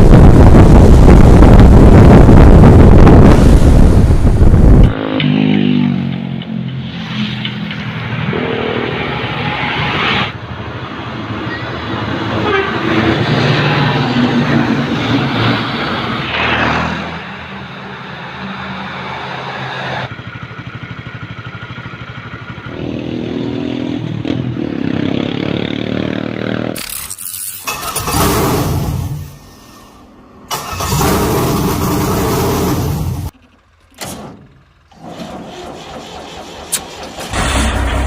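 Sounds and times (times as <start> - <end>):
road and wind noise: 0.0 - 38.0
diesel truck engines: 6.4 - 38.0.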